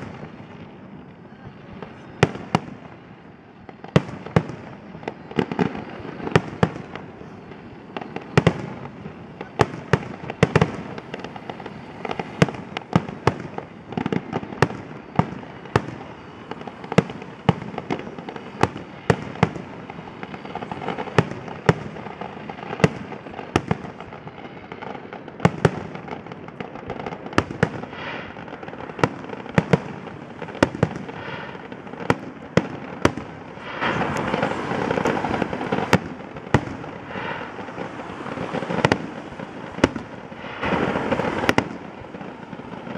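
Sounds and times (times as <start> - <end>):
firework bangs: 0.0 - 42.9
firework crackling: 0.0 - 42.9.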